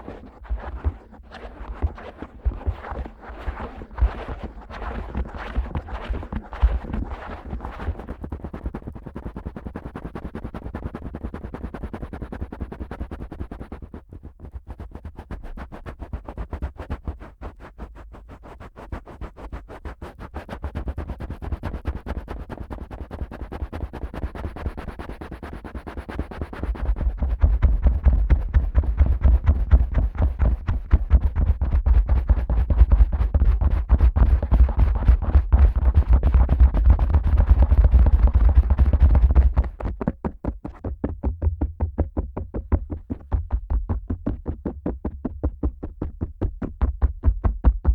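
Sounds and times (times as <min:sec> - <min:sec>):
finger scratching around ear: 0:00.0 - 0:39.9
fingers rubbing in microphone ear: 0:00.0 - 0:40.9, 0:42.4 - 0:47.9.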